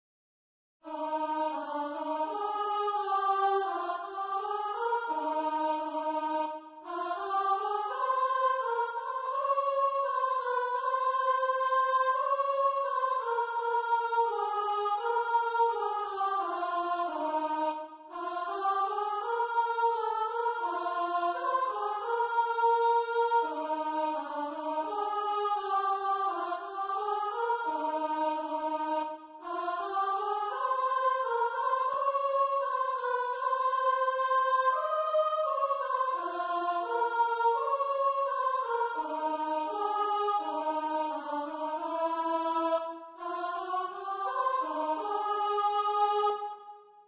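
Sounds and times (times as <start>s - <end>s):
soprano choir part singing: 0.8s - 47.0s.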